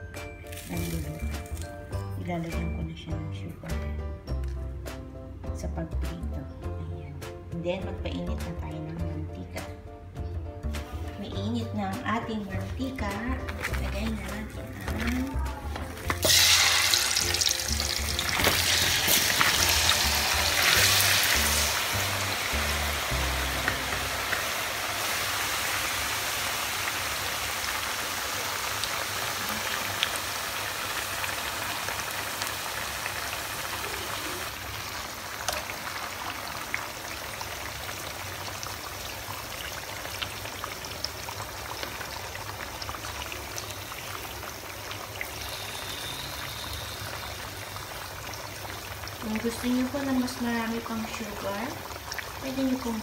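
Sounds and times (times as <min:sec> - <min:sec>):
food deep-frying in oil: 0:00.0 - 0:02.6, 0:10.6 - 0:53.0.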